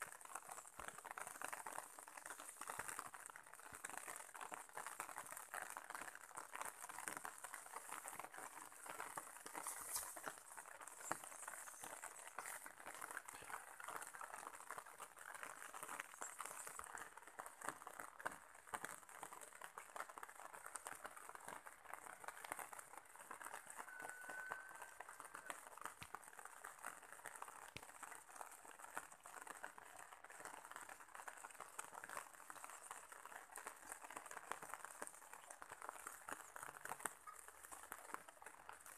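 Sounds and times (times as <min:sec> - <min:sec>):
light pattering and crackling: 0:00.0 - 0:38.9.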